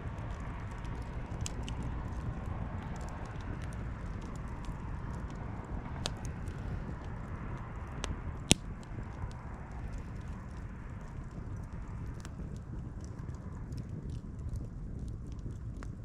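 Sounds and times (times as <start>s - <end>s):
campfire burning: 0.0s - 16.0s
wood crackling and popping: 0.0s - 16.0s.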